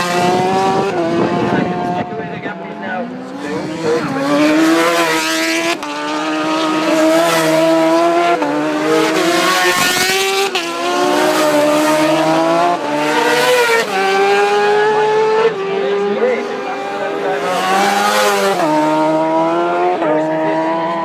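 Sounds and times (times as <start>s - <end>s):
motorcycle engines accelerating: 0.0s - 21.0s.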